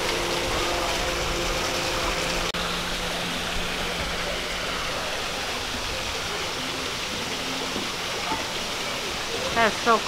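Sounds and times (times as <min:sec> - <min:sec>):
waterfall splashing down rocks: 0:00.0 - 0:10.0.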